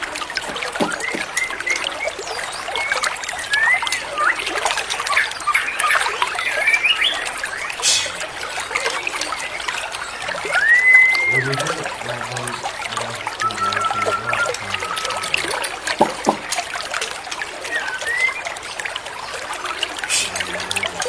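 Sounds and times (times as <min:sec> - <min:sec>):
trickling water: 0:00.0 - 0:21.0
bird singing and whistling: 0:00.4 - 0:16.6, 0:17.5 - 0:19.4, 0:20.0 - 0:20.8.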